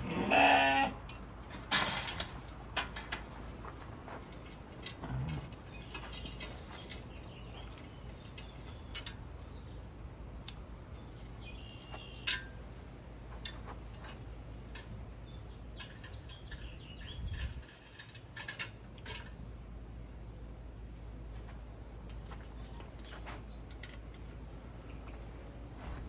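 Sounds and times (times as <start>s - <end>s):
metal yoke and chain clinking: 0.0s - 0.4s, 1.0s - 19.7s, 22.0s - 24.6s.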